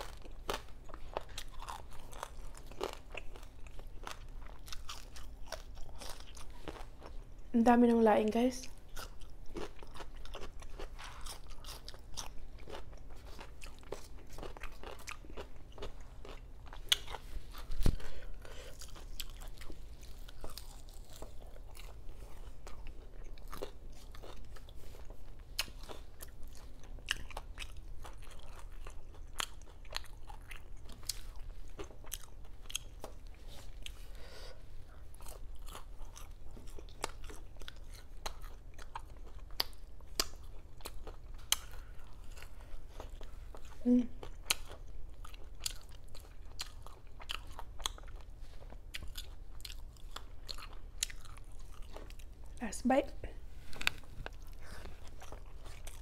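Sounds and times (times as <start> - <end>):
crunching and chewing crispy food: 0.0 - 7.8, 8.6 - 52.7, 53.4 - 56.0.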